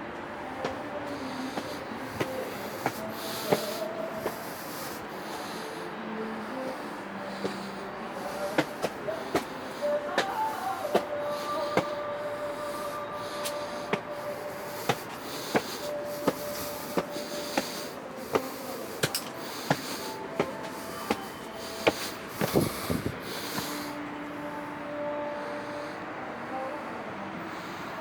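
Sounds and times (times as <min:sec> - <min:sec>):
background hiss: 0:00.0 - 0:26.8
footsteps walking: 0:00.1 - 0:05.6, 0:06.4 - 0:12.0, 0:12.6 - 0:24.0.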